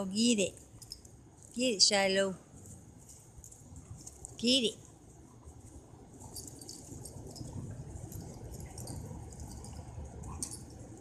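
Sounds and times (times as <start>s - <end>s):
claws and rope scratching: 0.4s - 11.0s.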